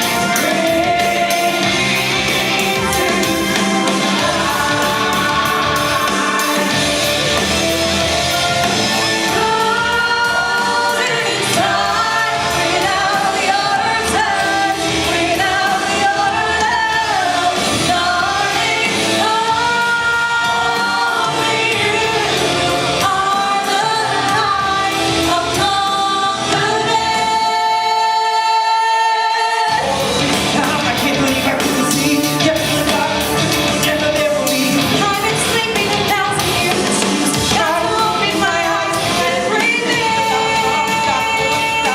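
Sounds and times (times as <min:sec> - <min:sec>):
person singing: 0:00.0 - 0:41.9
pop-rock band playing: 0:00.0 - 0:41.9.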